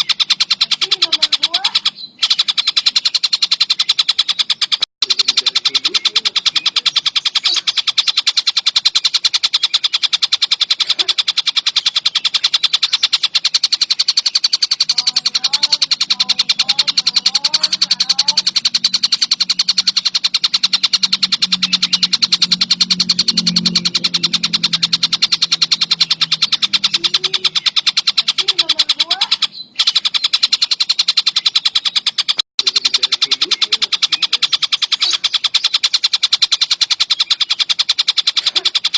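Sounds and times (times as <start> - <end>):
bird rattling chatter: 0.0 - 38.9.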